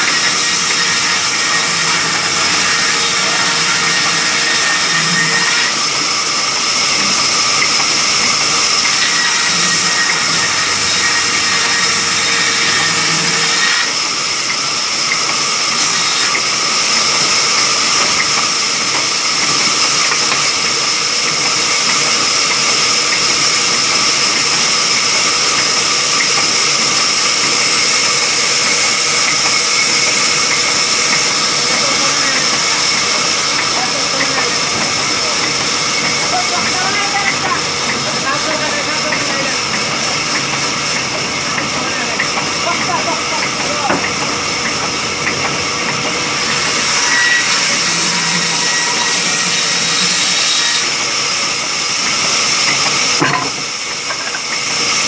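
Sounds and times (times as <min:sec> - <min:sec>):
band saw cutting through log: 0:00.0 - 0:55.0.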